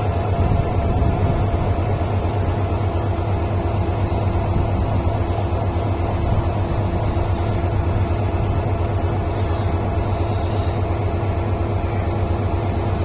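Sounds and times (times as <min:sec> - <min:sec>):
train rolling through station: 0:00.0 - 0:13.0.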